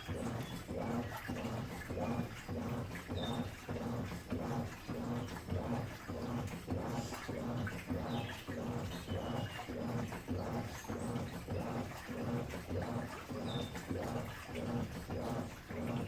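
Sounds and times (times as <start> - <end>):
washing machine agitating water: 0.0 - 16.0.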